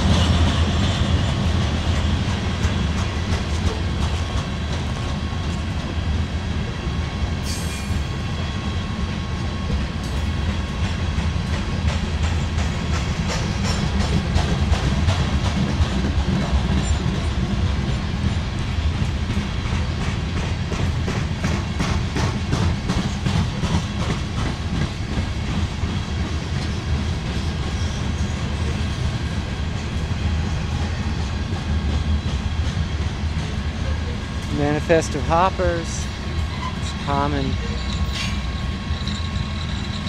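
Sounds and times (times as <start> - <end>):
wheels clacking over rail joints: 0.0 - 6.7, 7.4 - 40.0
freight train rumbling past: 0.0 - 40.0.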